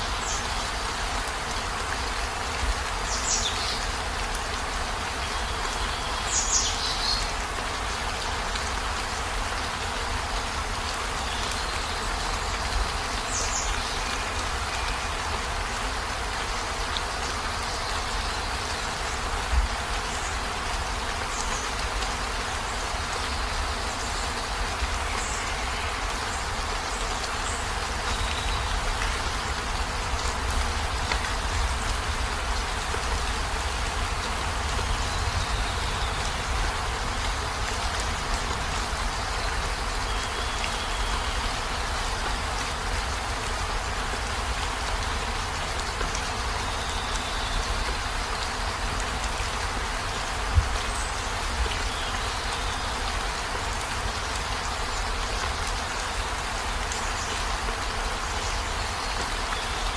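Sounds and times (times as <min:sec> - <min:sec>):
heavy rain on vehicle roof: 0:00.4 - 0:59.9.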